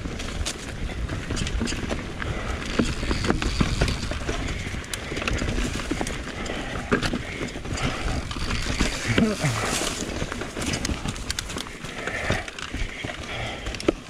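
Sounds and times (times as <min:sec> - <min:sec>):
bike rattling over bumps: 0:00.0 - 0:14.0
bike tyres rolling over dirt: 0:00.0 - 0:14.0.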